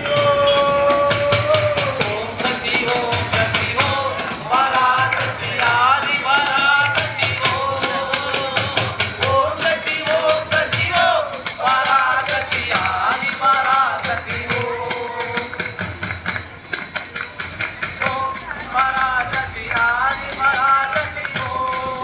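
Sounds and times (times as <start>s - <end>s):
fast jingling percussion: 0.0s - 22.0s.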